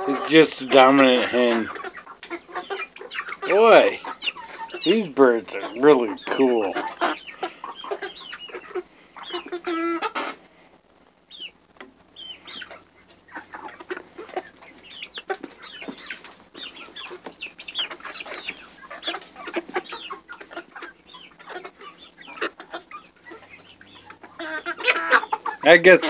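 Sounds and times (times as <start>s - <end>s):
hens clucking and chirping: 0.0s - 26.0s.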